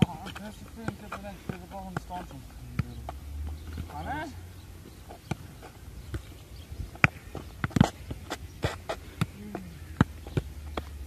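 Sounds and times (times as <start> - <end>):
football thudding on asphalt: 0.0 - 11.0.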